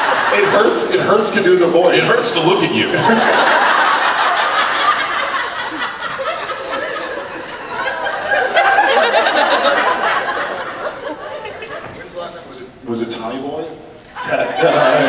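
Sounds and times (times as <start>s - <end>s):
audience laughing and cheering: 0.0s - 12.6s, 14.1s - 15.0s.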